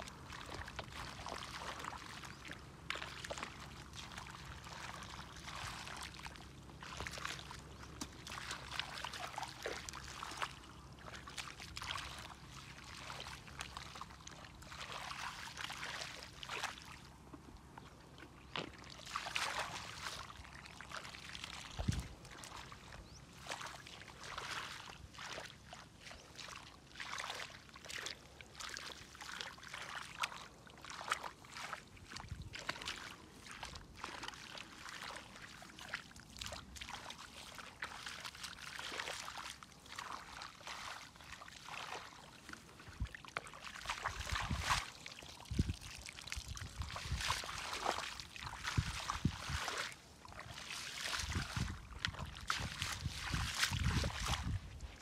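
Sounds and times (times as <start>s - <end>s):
sloshing through muddy water: 0.0s - 55.0s.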